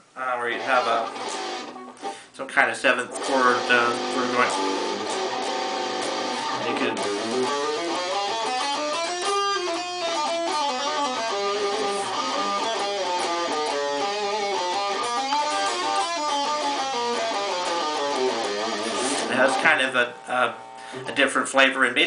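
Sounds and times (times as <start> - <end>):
electric guitar melodic runs: 0.5 - 2.2, 3.0 - 21.1.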